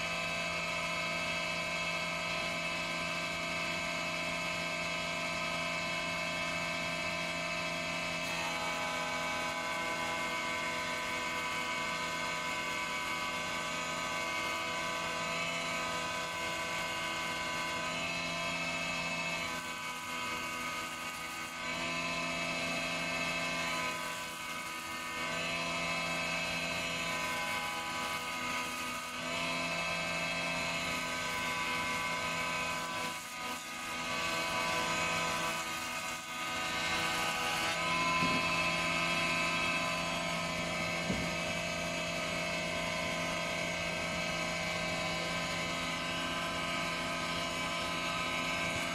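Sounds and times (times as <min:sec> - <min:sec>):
planer motor whining: 0:00.0 - 0:48.9.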